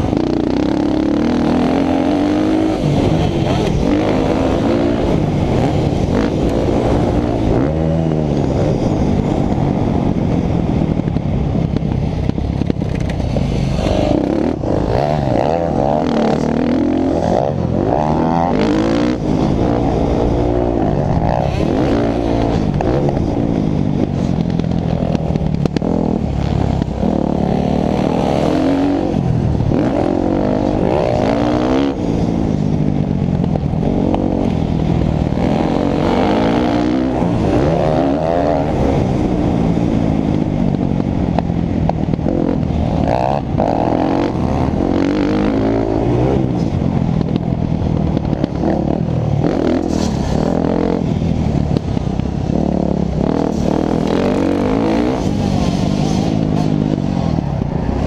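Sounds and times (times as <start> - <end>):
dirt bike engine revving: 0.0 - 9.3, 12.2 - 47.3, 48.0 - 58.0.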